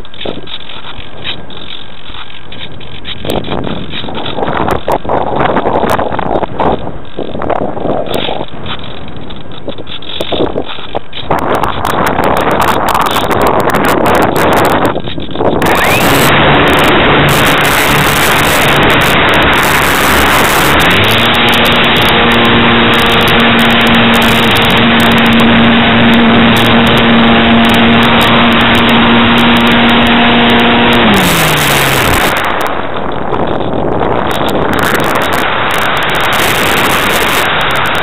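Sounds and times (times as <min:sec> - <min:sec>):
electric motor and propeller drone: 0:00.0 - 0:38.0
wind rush: 0:00.0 - 0:38.0.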